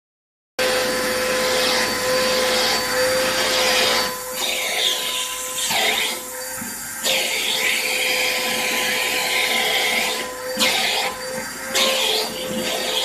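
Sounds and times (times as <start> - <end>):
vacuum cleaner running: 0.6 - 13.0.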